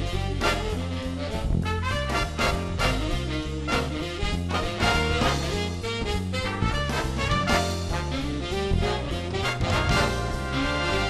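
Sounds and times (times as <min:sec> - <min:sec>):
swing jazz music: 0:00.0 - 0:11.0.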